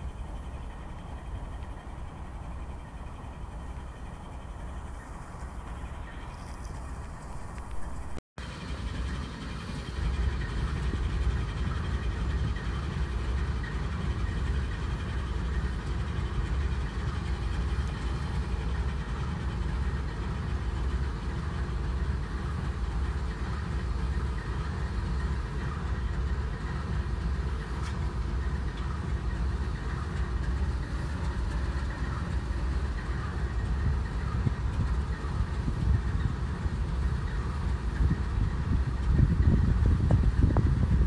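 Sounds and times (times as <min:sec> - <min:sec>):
faint hum: 0:00.0 - 0:41.0
locomotive engines idling: 0:00.0 - 0:41.0.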